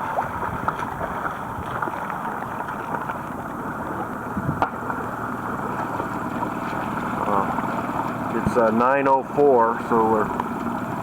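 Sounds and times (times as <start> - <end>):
boat motor running: 0.0 - 11.0
water: 0.0 - 11.0
wind: 0.0 - 11.0.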